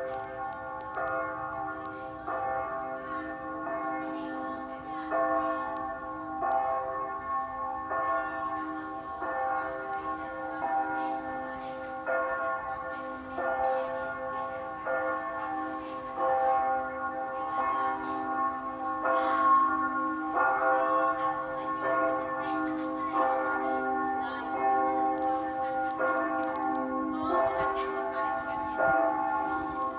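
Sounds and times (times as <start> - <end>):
church bells ringing: 0.0 - 29.9.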